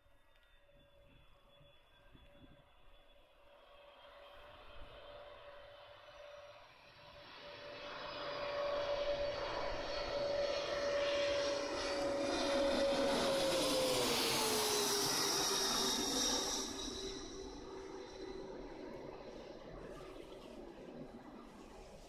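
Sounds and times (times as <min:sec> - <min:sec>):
jet engine whine passing overhead: 0:00.1 - 0:22.0.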